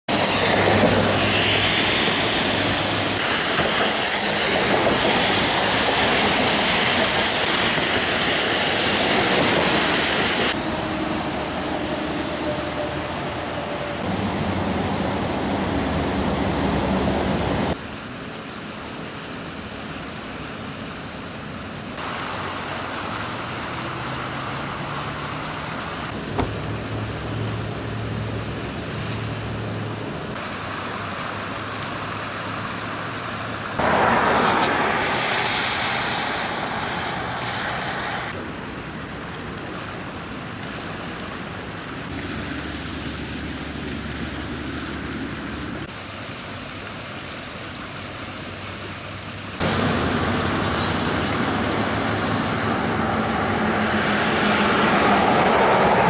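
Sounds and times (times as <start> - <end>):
floodwater rushing: 0.1 - 56.0.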